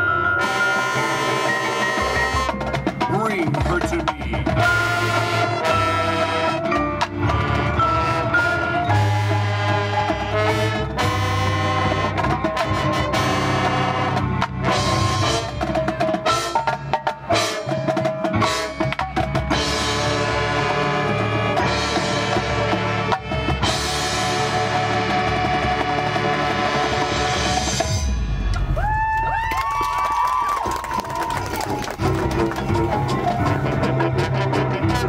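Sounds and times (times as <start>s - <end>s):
marching band playing: 0.0s - 28.8s, 29.5s - 35.0s
drums and percussion: 0.0s - 35.0s.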